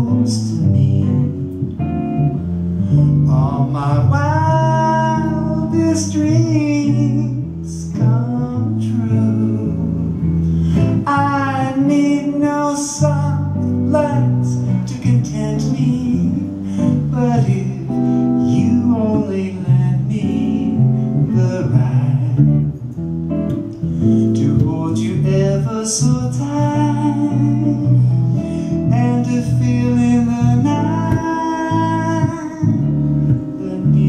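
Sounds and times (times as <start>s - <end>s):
man singing a slow ballad: 0.0s - 1.5s, 2.9s - 22.8s, 24.0s - 34.0s
guitar: 0.0s - 34.0s.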